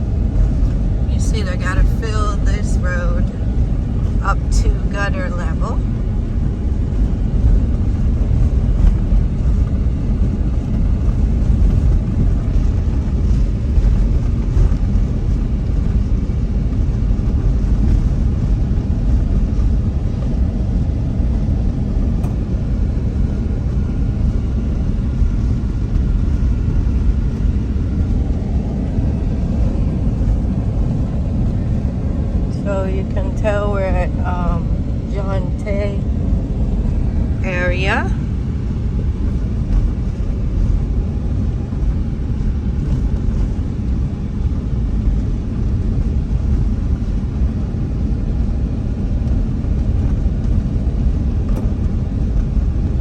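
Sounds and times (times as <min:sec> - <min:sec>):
car interior driving rumble: 0:00.0 - 0:53.0.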